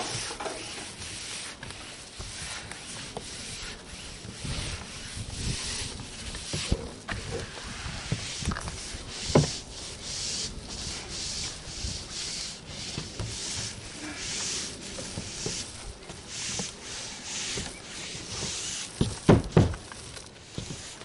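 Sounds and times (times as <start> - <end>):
paint rollers swishing: 0.0 - 21.0.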